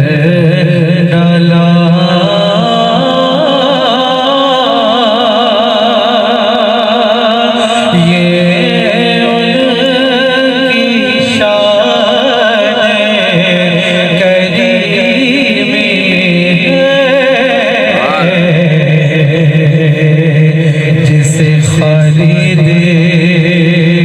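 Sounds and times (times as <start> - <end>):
person chanting: 0.0 - 24.0
steady low drone: 0.0 - 24.0.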